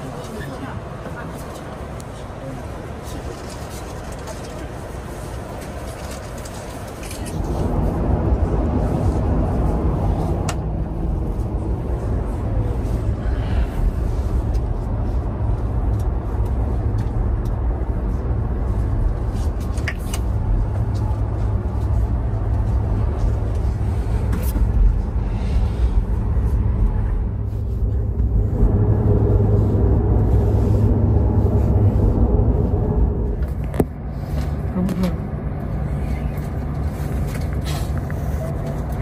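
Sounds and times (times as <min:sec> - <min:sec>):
mid-pitched hum: 0:00.0 - 0:39.0
train cabin rumble and hum: 0:00.0 - 0:39.0.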